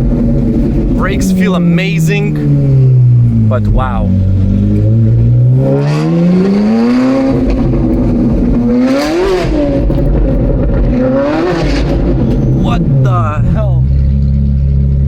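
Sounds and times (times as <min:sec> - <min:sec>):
loud car engine revving: 0:00.0 - 0:15.0.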